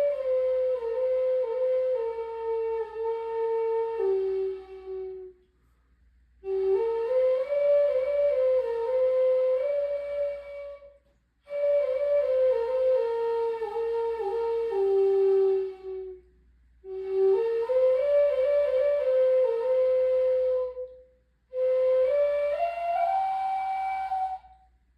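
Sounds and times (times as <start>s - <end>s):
flute playing slow melody: 0.0s - 5.5s, 6.4s - 24.7s.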